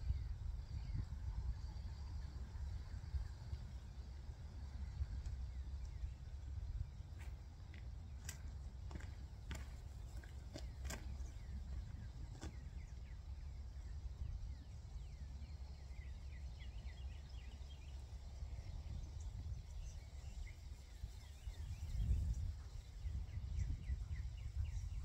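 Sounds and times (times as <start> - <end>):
wind rumble on microphone: 0.0 - 25.0
birds chirping: 3.4 - 25.0.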